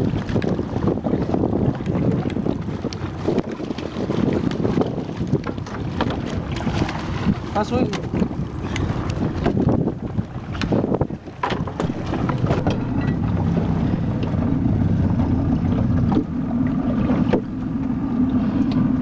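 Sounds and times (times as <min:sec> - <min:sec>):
boat motor droning: 0:00.0 - 0:19.0.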